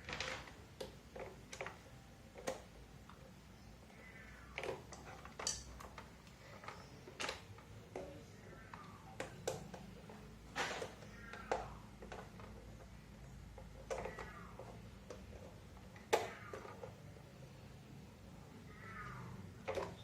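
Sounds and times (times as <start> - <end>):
plastic parts clicking and tapping: 0.0 - 3.4, 4.0 - 17.3, 19.5 - 20.0.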